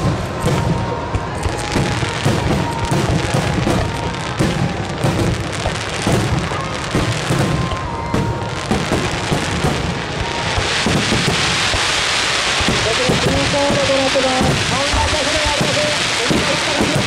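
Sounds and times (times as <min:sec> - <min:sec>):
firework shells booming and crackling: 0:00.0 - 0:17.0.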